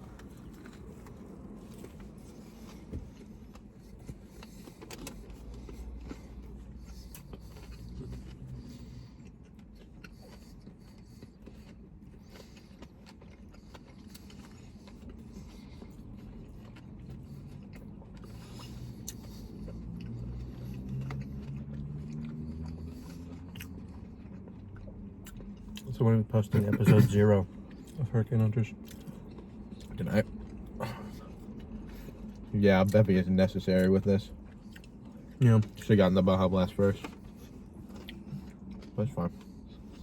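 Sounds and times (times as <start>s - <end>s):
quiet chewing: 0.0s - 40.0s
steady low hum: 0.0s - 40.0s.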